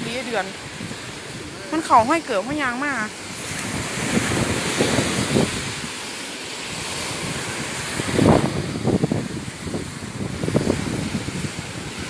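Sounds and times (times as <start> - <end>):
sea surf: 0.0 - 12.0
wind on microphone: 0.0 - 12.0.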